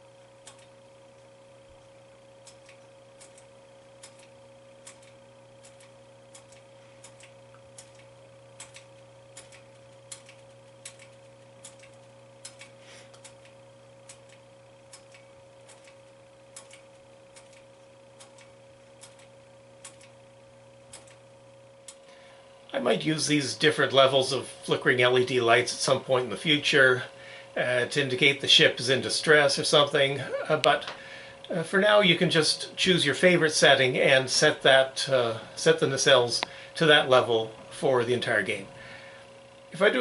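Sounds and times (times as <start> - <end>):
electrical hum: 0.0 - 40.0.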